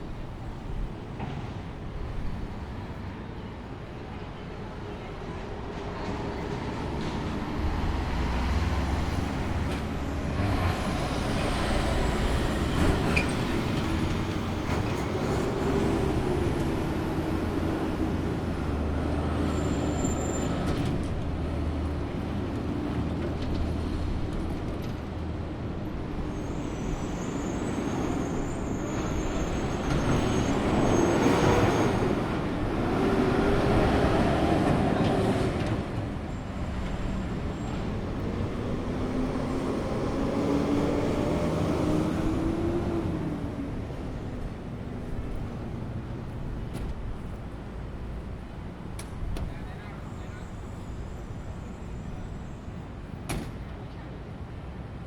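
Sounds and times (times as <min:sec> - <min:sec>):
heavy engines rumbling: 0:00.0 - 0:55.0
street traffic: 0:00.0 - 0:55.0.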